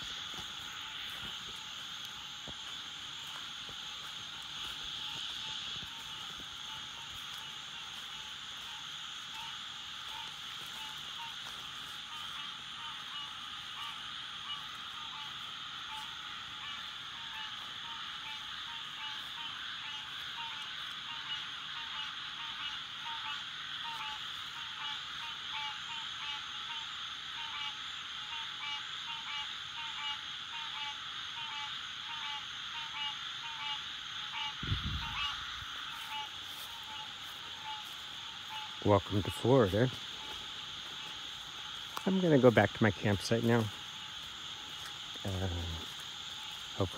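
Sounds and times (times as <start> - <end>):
frogs chorusing: 0.0 - 46.9
repeating frog call: 0.0 - 46.9.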